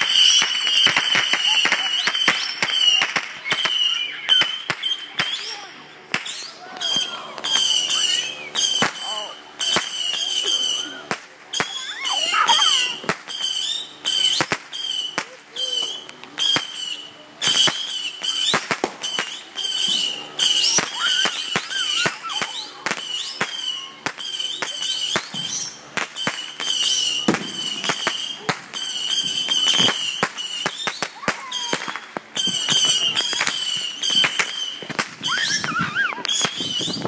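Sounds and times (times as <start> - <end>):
fireworks bangs and pops: 0.0 - 37.0.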